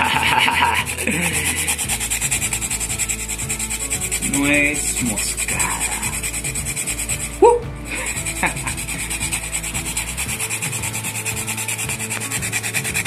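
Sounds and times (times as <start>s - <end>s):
nutmeg scraping on grater: 0.0s - 13.0s.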